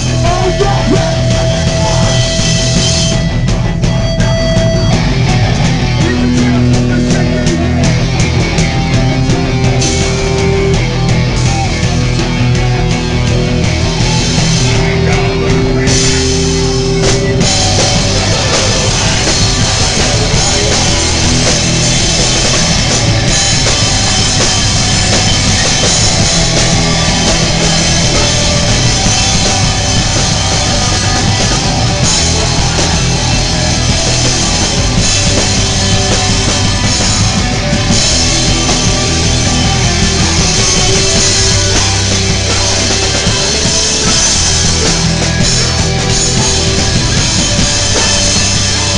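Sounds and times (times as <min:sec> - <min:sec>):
pounding drum kit: 0:00.0 - 0:48.9
punk band playing live: 0:00.0 - 0:48.9.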